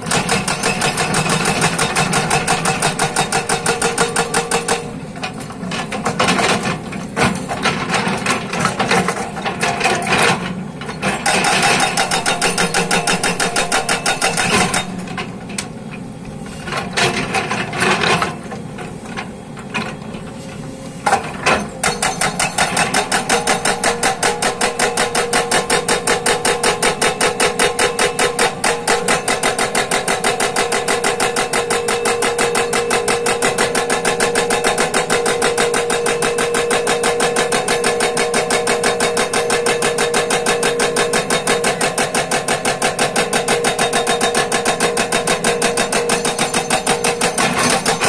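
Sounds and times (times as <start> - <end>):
hydraulic breaker hammering rock: 0.0 - 15.5, 21.0 - 48.0
excavator engine running: 0.0 - 48.0.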